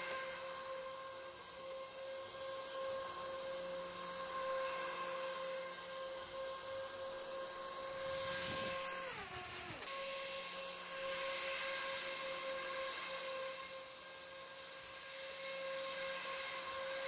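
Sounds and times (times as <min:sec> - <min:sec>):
hovercraft fan motors whining: 0:00.0 - 0:17.0.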